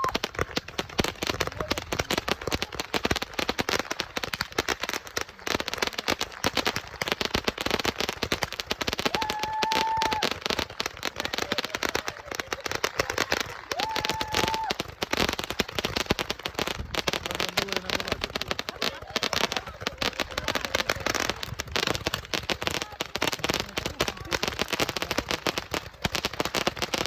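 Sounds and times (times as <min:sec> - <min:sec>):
fireworks popping and crackling: 0:00.0 - 0:27.0.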